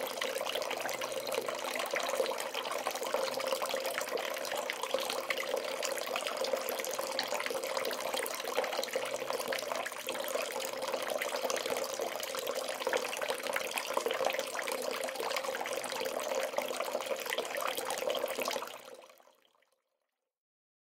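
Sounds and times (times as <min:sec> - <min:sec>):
bath tap running into bathtub: 0:00.0 - 0:19.0.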